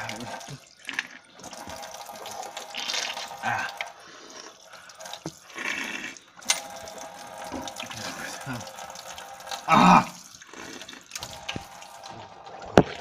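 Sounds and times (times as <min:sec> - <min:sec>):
faucet running into a sink: 0:00.0 - 0:13.0
person drinking and rinsing mouth: 0:00.0 - 0:13.0
water splashing: 0:00.0 - 0:13.0.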